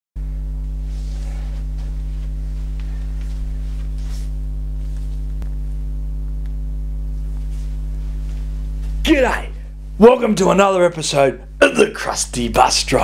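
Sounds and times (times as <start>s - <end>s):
electrical mains hum: 0.2s - 13.0s.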